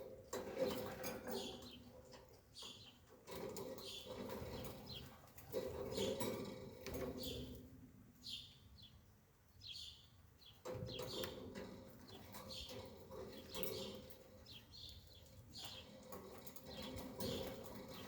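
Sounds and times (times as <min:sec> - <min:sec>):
birds chirping: 0:01.0 - 0:07.6, 0:09.6 - 0:18.0.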